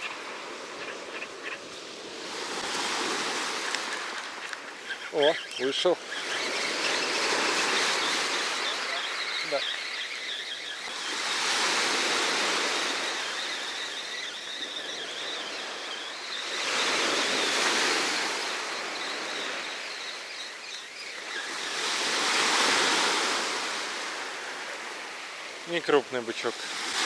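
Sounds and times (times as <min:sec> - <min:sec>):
waves breaking on beach: 0:00.0 - 0:27.0.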